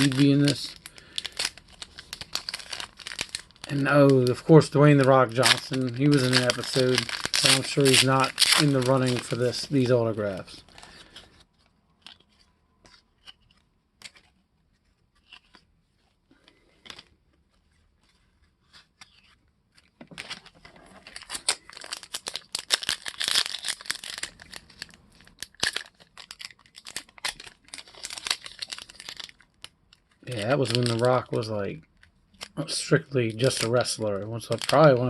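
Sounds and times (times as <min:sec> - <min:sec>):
wrapper tearing and crinkling: 0:00.0 - 0:14.4, 0:18.7 - 0:35.0.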